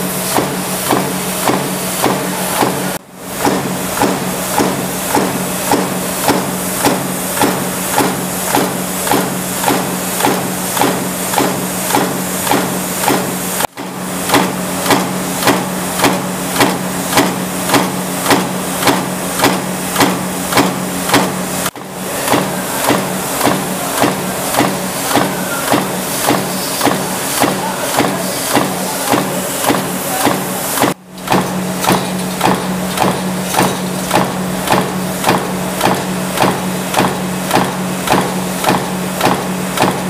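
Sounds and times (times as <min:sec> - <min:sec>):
stamping press metallic impacts: 0:00.2 - 0:40.0.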